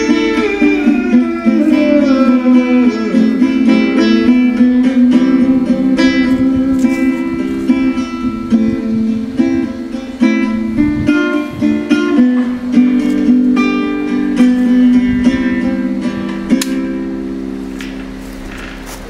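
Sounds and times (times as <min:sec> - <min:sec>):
plucked guitar-like instrumental music: 0:00.0 - 0:19.0.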